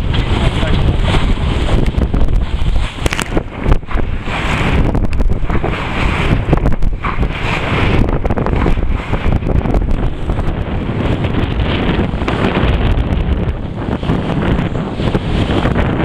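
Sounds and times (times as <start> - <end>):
water splashing past hull: 0.0 - 16.0
wind buffeting microphone: 0.0 - 16.0.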